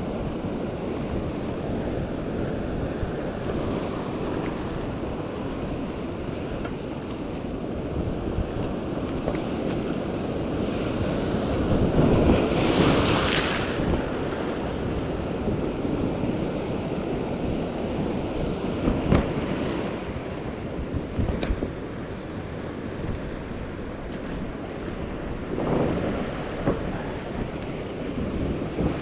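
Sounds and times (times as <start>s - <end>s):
sea waves washing in: 0.0s - 29.0s
wind on microphone: 0.0s - 29.0s.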